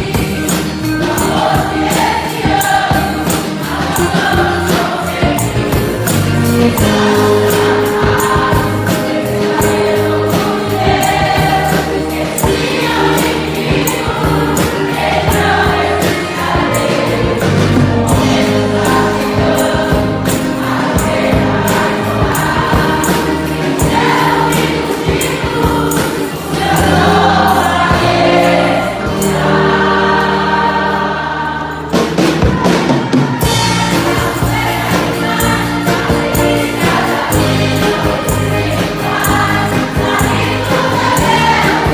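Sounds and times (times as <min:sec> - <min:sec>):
band accompaniment: 0:00.0 - 0:41.9
choir singing gospel: 0:00.0 - 0:41.9
steady percussion: 0:00.0 - 0:41.9.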